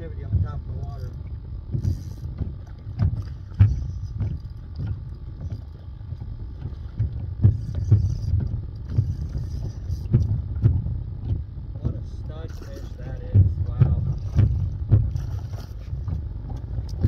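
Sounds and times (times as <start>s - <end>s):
waves slapping against boat hull: 0.0s - 17.0s.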